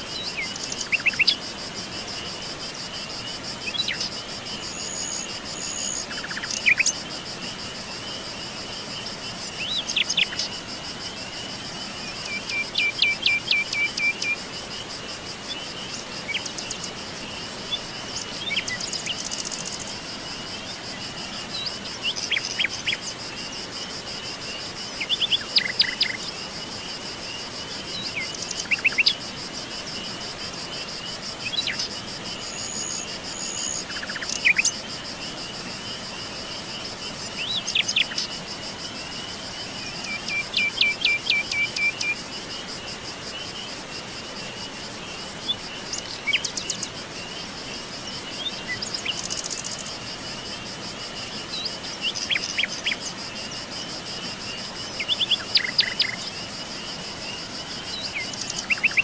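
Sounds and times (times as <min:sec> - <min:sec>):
background hiss: 0:00.0 - 0:59.0
pulsing insect trill: 0:00.0 - 0:59.0.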